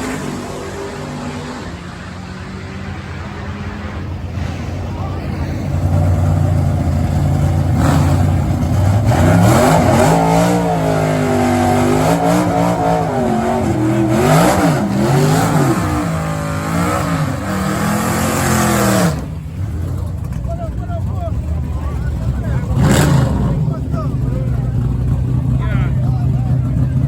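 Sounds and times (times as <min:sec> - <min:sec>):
racing engine idling and revving: 0:00.0 - 0:27.0.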